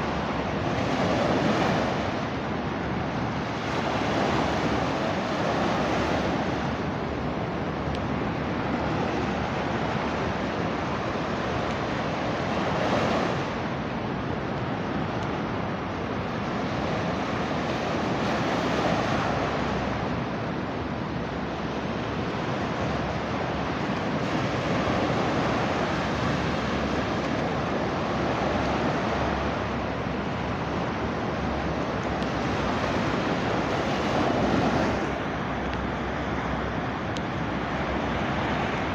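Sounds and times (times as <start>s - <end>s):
sea surf breaking on beach: 0.0s - 38.9s.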